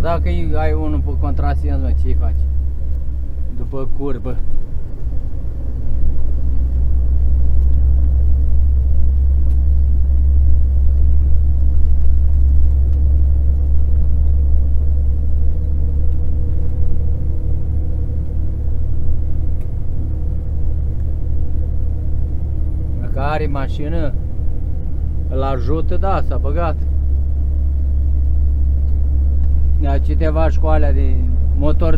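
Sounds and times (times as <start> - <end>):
car engine and road rumble: 0.0 - 31.9
faint engine hum: 0.0 - 31.9.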